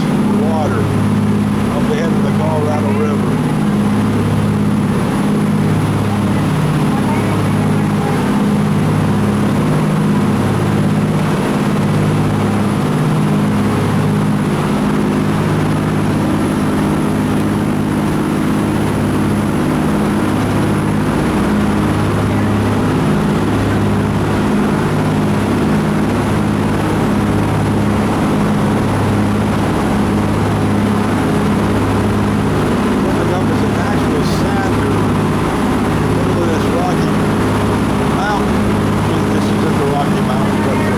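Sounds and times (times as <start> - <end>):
boat engine drone: 0.0 - 40.9.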